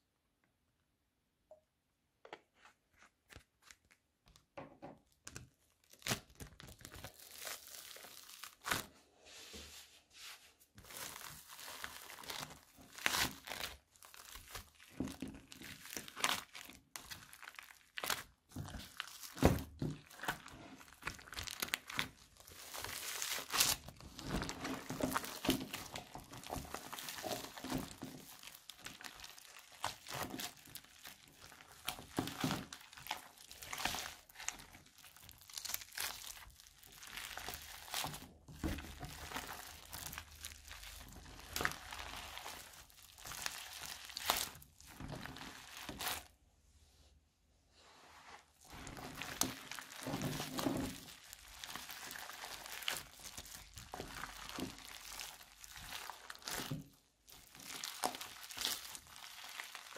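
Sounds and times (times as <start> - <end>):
slime crackling when squeezed: 5.6 - 8.9, 10.8 - 46.3, 48.7 - 59.9.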